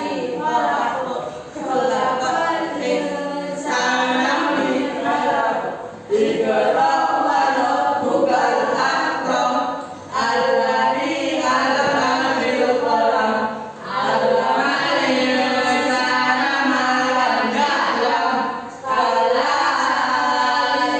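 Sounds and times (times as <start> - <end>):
group of voices singing: 0.0 - 20.9.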